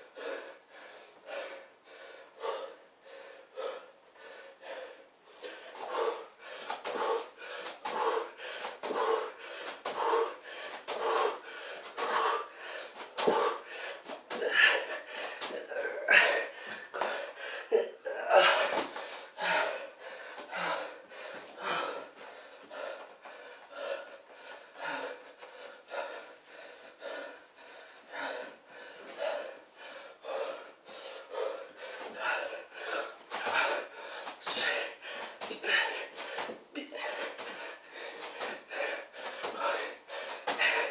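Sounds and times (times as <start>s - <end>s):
man panting heavily: 0.0s - 40.9s.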